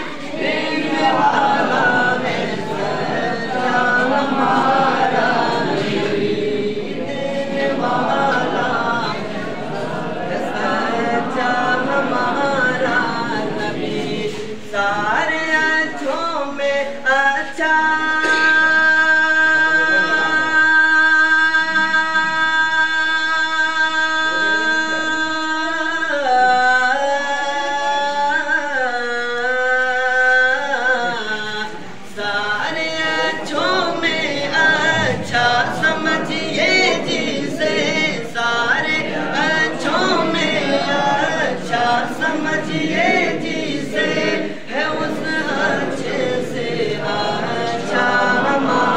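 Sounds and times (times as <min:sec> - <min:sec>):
male voices singing a chant: 0:00.0 - 0:48.9.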